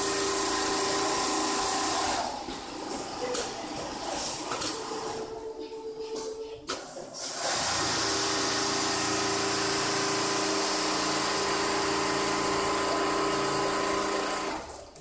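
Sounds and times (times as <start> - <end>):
sewing machine humming: 0.0 - 5.9, 7.2 - 14.9.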